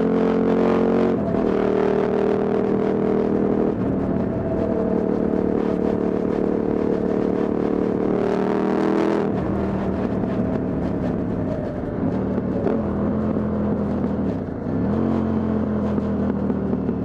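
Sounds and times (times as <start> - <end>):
motorcycle engine while riding: 0.0 - 17.0.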